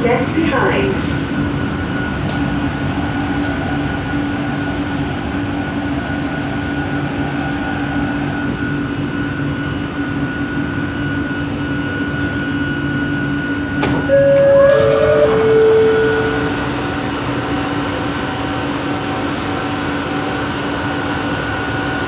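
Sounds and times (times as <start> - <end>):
metro train rumble: 0.0 - 22.0
two-tone motor whine: 1.9 - 22.0.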